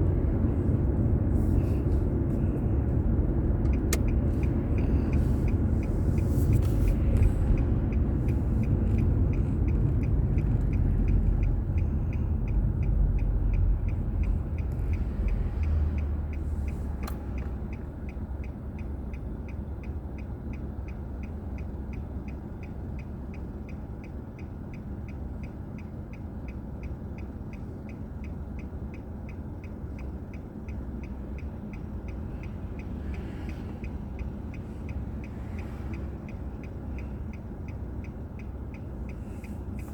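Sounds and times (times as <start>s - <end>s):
car road and engine rumble: 0.0s - 39.9s
faint fast ticking: 3.0s - 39.9s.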